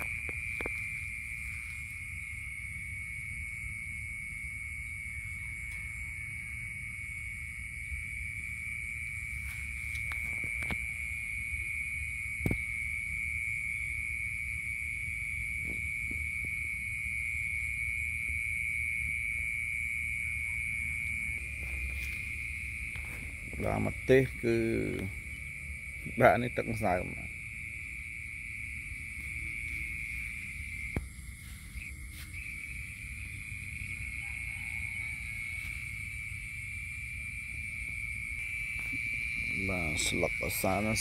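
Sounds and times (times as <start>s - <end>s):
night insects trilling: 0.0s - 41.0s.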